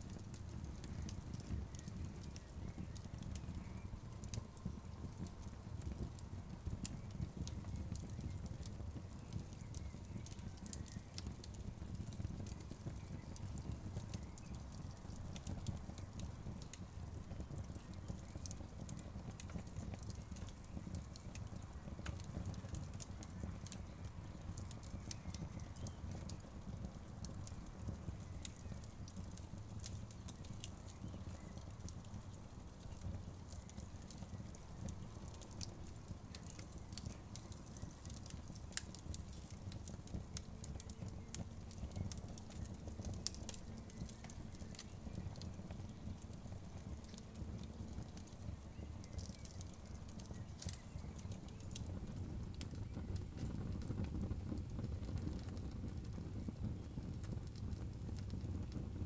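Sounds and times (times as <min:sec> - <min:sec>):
low rumble of burning logs: 0:00.0 - 0:59.0
wood fire crackling: 0:00.0 - 0:59.0
sharp pops and snaps: 0:06.8 - 0:54.1.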